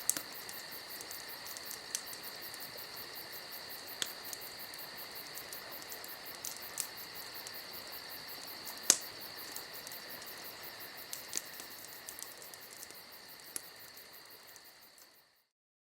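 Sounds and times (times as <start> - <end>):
campfire crackling: 0.0 - 15.4
crickets chirping: 0.0 - 15.5.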